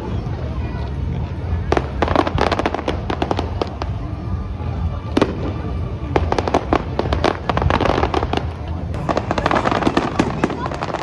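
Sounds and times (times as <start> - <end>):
low rumble: 0.0 - 11.0
fireworks crackling: 1.0 - 11.0.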